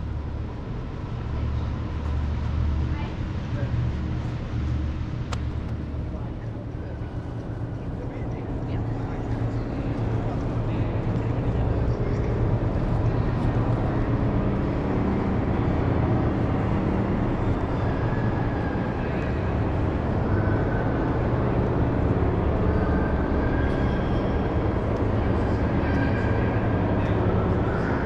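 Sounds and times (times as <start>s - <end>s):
low city rumble and hum: 0.0s - 28.0s.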